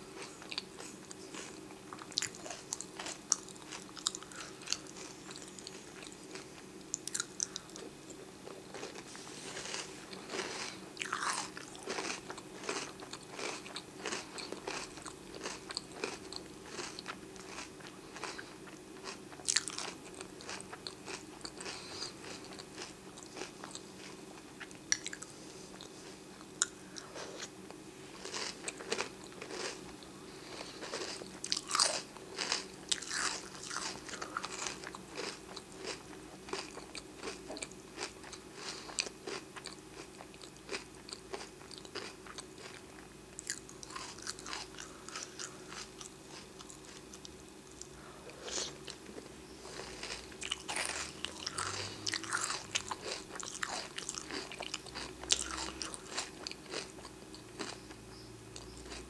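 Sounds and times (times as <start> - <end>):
person chewing crunchy cereal: 0.0 - 59.0.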